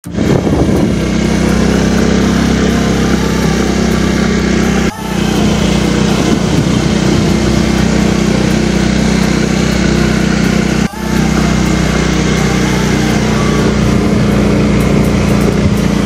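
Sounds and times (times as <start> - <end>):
small motorcycle engine running: 0.0 - 16.0.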